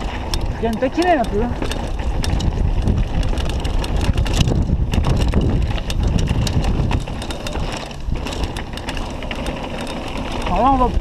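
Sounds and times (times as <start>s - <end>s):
bike clicks and rattles: 0.0s - 11.0s
wind buffeting microphone: 0.0s - 11.0s.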